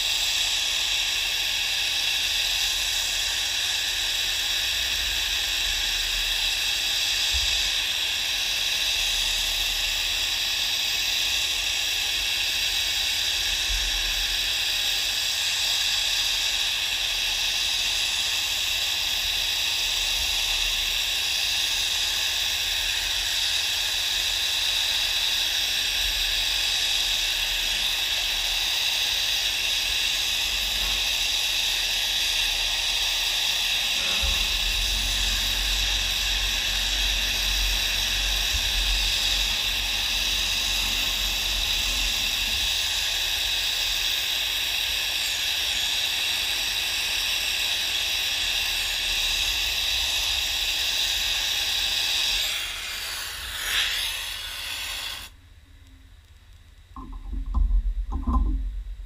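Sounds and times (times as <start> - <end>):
gas torch flame hissing: 0.0 - 55.4.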